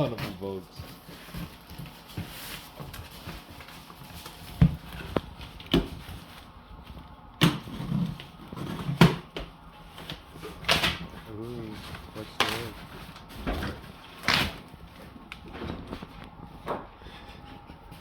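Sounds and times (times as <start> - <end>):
packaging rustling: 0.0 - 9.2, 9.8 - 16.6.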